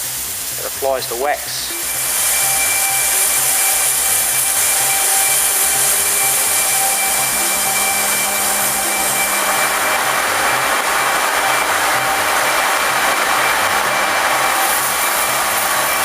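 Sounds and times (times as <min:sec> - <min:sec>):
faint machine whine: 0:00.0 - 0:16.0
hiss of water sprays: 0:00.0 - 0:16.0.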